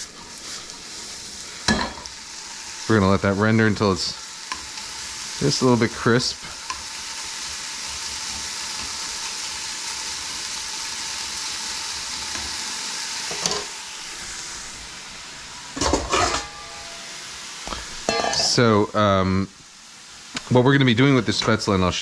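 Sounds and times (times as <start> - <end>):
bacon sizzling in frying pan: 0.0 - 22.0.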